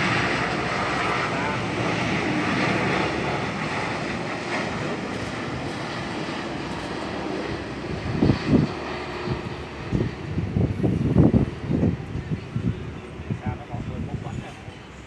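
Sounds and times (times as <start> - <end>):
jet airliner engines rumbling: 0.0 - 15.0.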